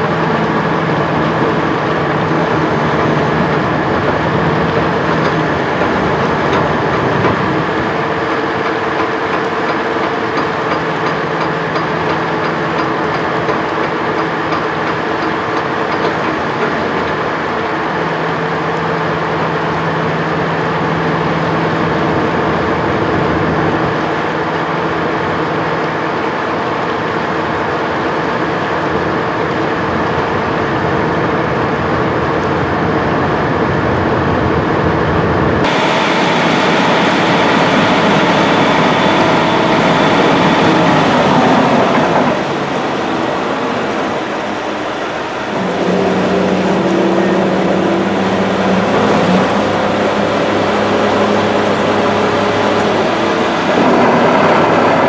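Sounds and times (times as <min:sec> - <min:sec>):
ferry engine running: 0:00.0 - 0:55.0.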